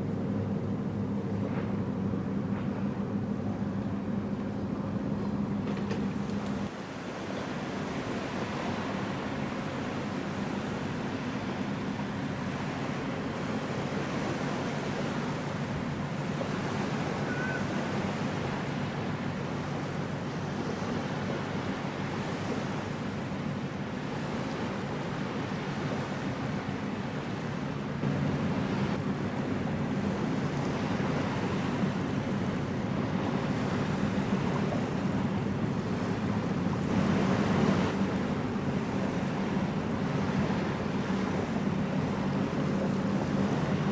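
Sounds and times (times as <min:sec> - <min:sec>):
ship engine low drone: 0:00.0 - 0:43.9
water noise: 0:00.0 - 0:43.9
wind: 0:00.0 - 0:43.9.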